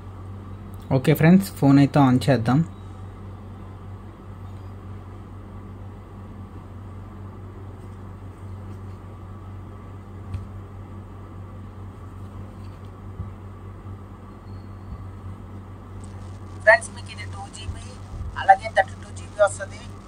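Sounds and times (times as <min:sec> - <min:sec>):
room noise hum: 0:00.0 - 0:20.0.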